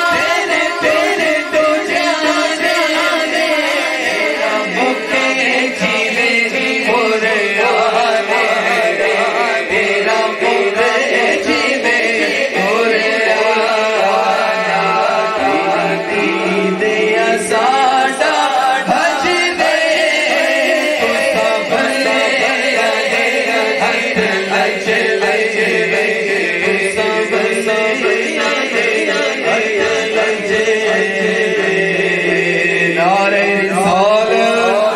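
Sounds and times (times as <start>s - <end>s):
men chanting into microphones: 0.0s - 34.9s.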